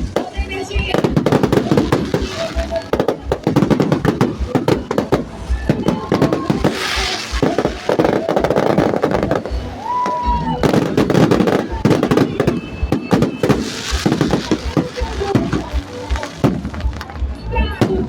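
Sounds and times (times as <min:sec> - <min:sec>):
crowd voices: 0:00.0 - 0:18.0
fireworks popping and banging: 0:00.0 - 0:18.0
music: 0:00.0 - 0:18.0.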